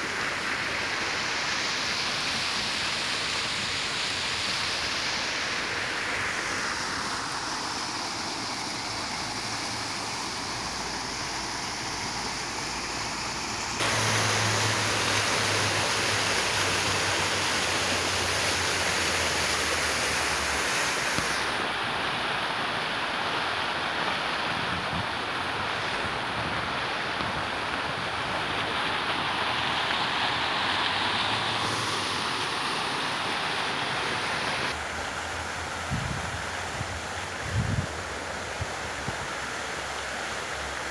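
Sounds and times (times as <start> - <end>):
fountain splashing into pool: 0.0 - 40.9.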